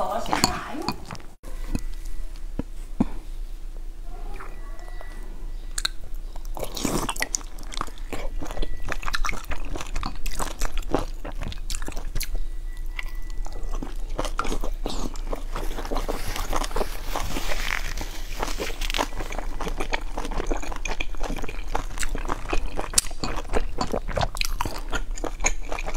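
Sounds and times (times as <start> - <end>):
chewing a fried dumpling: 4.3 - 25.9.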